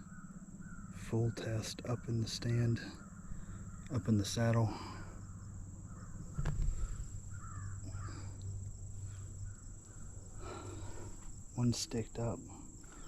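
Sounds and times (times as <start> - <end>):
distant crows cawing: 0.0 - 13.0.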